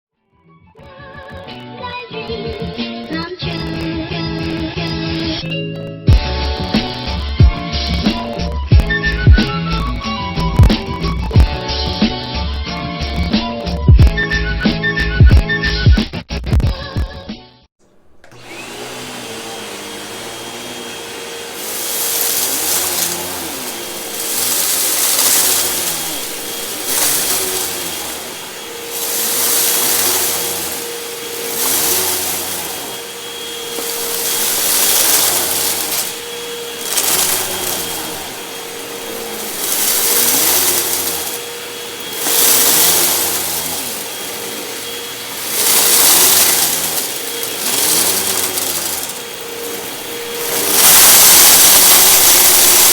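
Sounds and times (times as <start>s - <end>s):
vacuum cleaner on carpet: 6.1s - 14.5s, 17.8s - 52.9s.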